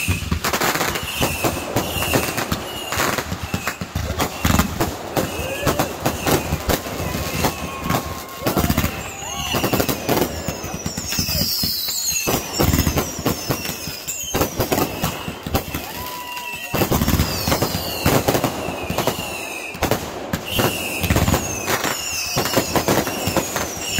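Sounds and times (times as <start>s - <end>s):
falling firework whistles: 0.0s - 23.9s
fireworks bangs and crackles: 0.0s - 23.9s.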